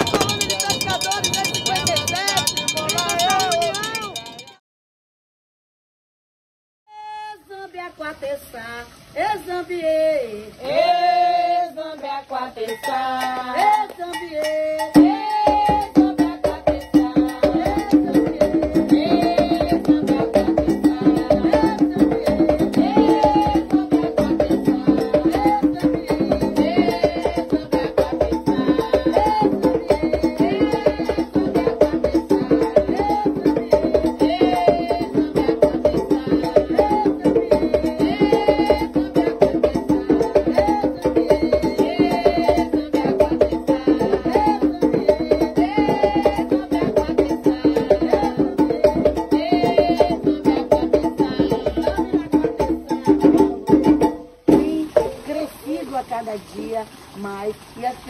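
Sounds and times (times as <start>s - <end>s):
percussion with metal bell: 0.0s - 4.6s, 12.6s - 55.6s
woman singing a chant: 6.9s - 53.8s, 54.5s - 58.0s.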